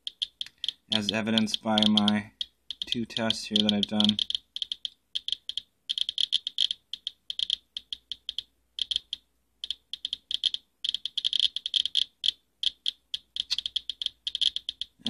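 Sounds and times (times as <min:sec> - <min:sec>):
geiger counter clicking: 0:00.0 - 0:15.0.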